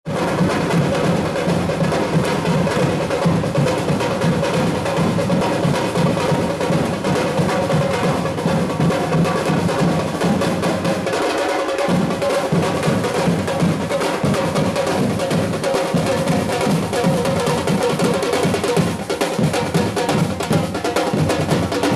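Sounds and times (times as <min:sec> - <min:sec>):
snare drum rolls: 0:00.1 - 0:21.9.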